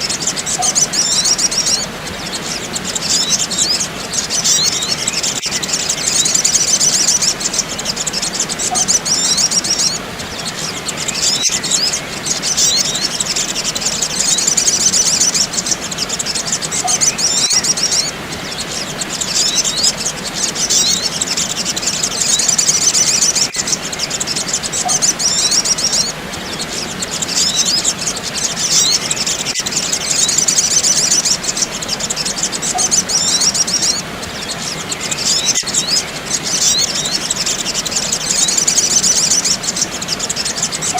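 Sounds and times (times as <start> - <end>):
sunbirds twittering: 0.0 - 40.9.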